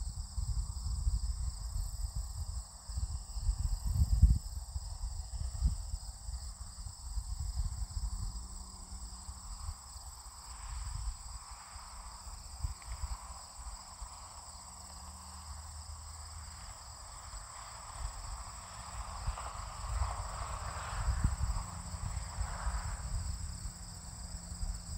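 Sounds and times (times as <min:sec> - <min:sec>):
insects chorus: 0:00.0 - 0:24.9.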